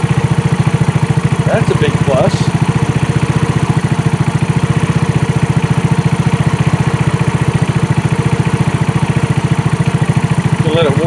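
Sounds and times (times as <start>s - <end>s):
dune buggy engine idling: 0.0s - 11.0s.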